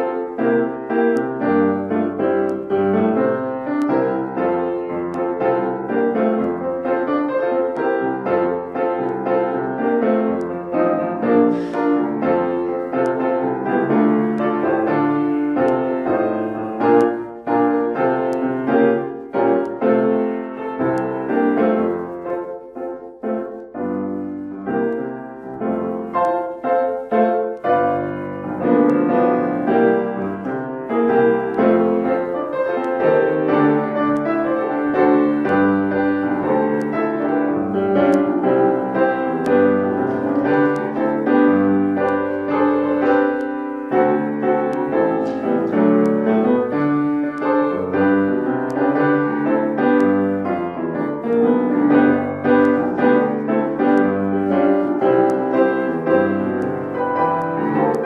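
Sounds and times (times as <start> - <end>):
slow gentle piano piece: 0.0 - 58.0.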